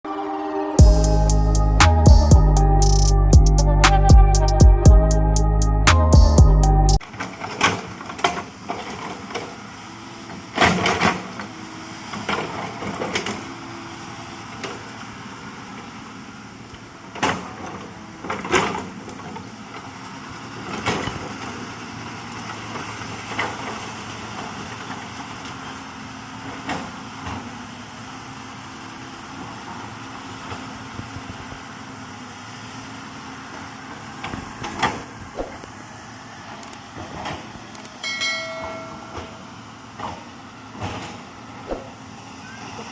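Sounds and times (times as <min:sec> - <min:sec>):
excavator running: 0:00.1 - 0:42.9.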